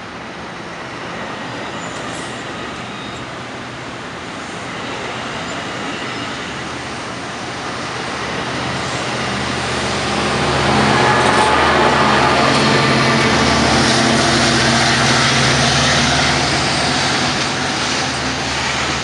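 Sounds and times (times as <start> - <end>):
diesel locomotive engine hum: 0.0 - 19.0
train wheel and rail noise: 0.0 - 19.0.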